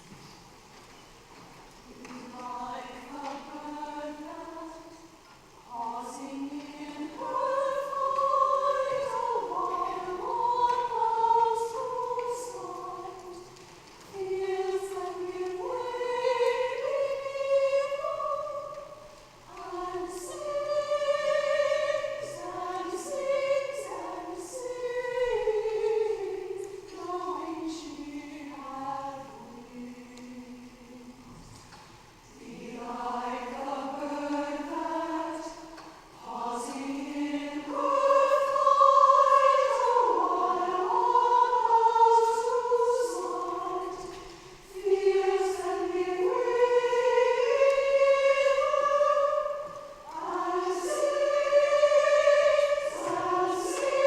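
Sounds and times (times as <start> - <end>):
women's chorus singing: 1.8 - 54.0.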